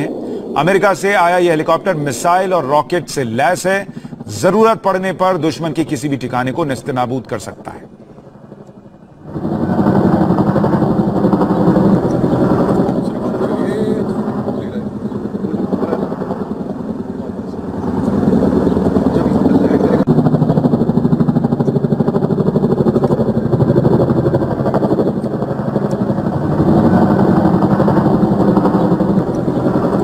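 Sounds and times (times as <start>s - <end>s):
helicopter engine: 0.0s - 30.0s
helicopter rotor beating: 0.0s - 30.0s.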